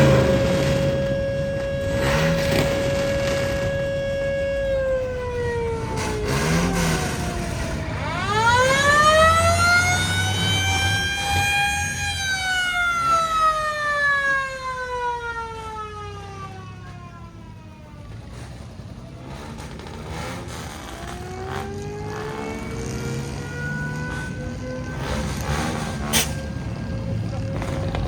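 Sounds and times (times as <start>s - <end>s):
wailing siren: 0.0s - 18.9s, 19.8s - 28.0s
low vehicle rumble: 0.0s - 28.0s.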